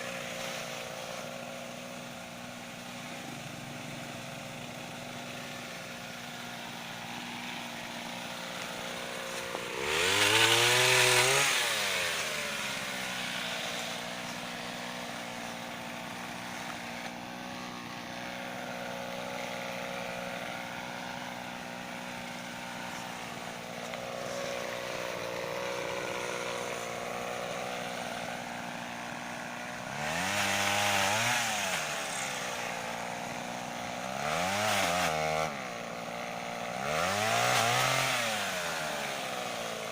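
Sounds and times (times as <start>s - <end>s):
pole saw engine idling: 0.0s - 39.9s
pole saw engine revving: 0.0s - 39.9s.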